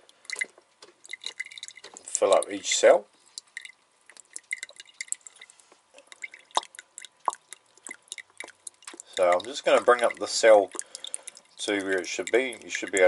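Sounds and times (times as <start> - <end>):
water dripping into battery cell: 0.0 - 13.0.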